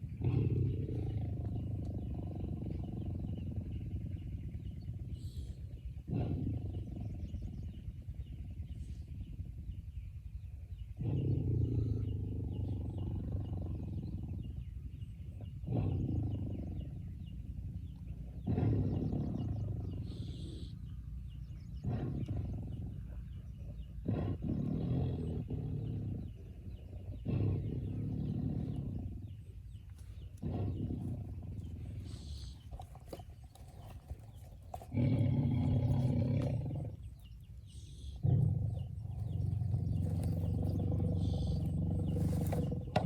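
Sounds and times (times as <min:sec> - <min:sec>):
tiger roaring and growling: 0:00.0 - 0:09.2, 0:10.9 - 0:20.6, 0:21.4 - 0:43.0.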